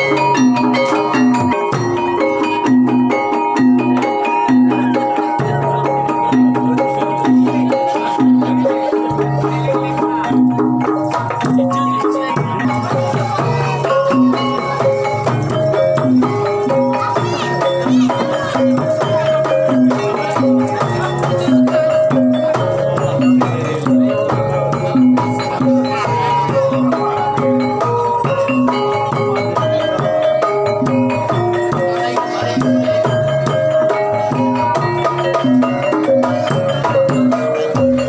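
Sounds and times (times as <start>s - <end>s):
drum strokes: 0.0s - 38.0s
gong-chime and metallophone notes: 0.0s - 38.0s.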